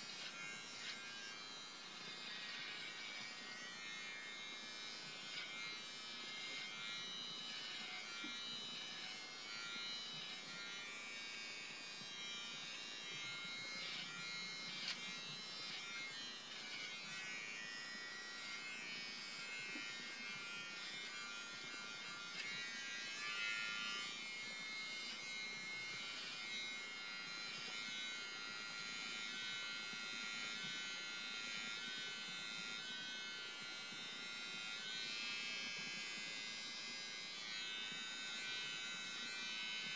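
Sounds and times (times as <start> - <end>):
electric trimmer buzzing: 0.0 - 39.9.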